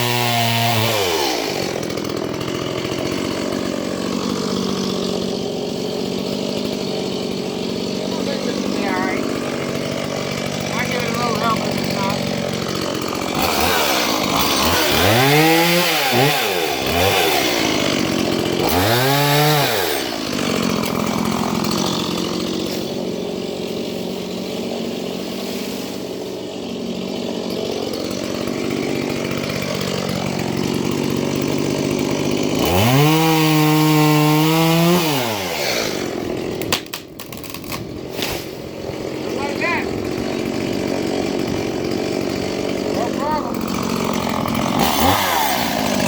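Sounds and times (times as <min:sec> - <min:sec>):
chainsaw revving: 0:00.0 - 0:46.0.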